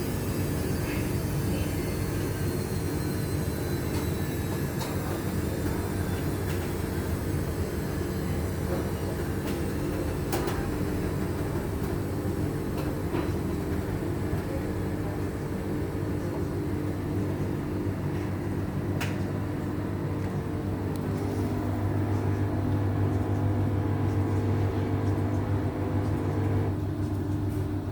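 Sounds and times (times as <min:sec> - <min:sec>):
washing machine spin cycle: 0:00.0 - 0:27.9.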